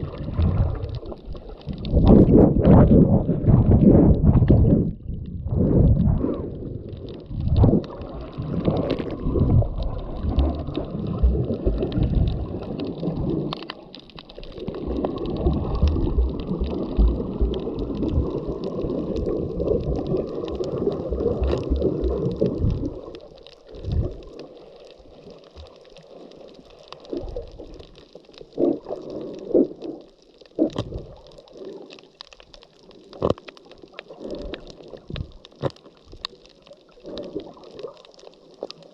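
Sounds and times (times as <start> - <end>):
muffled underwater gurgling rush: 0.0 - 38.9
sharp clicks and pops: 0.0 - 38.9.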